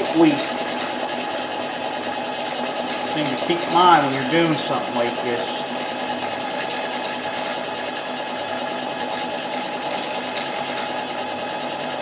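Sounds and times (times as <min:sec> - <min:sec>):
lathe humming with high whine: 0:00.0 - 0:12.0.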